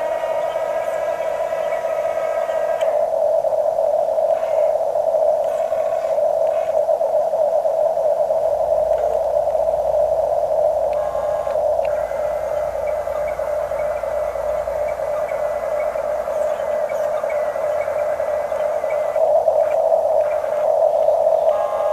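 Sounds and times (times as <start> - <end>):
small electric motors whining: 0.0 - 3.4, 4.1 - 6.8, 8.7 - 20.7, 21.3 - 21.9
faint low rumble: 0.0 - 21.9.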